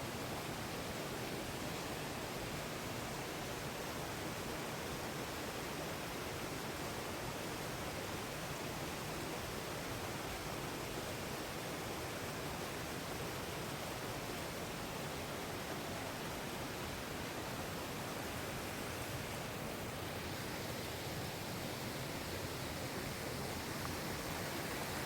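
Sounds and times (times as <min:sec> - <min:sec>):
flowing water rushing: 0:00.1 - 0:25.0.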